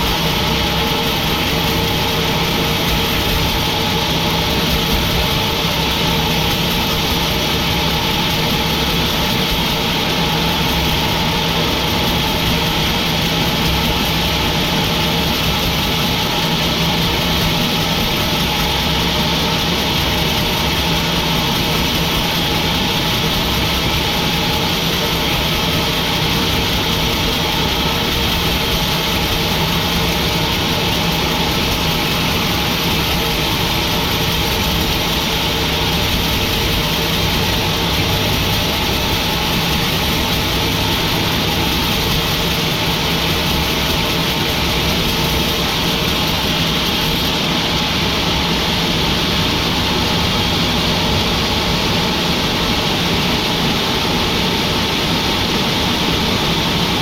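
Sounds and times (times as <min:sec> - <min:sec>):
sawmill machinery hum: 0:00.0 - 0:57.0.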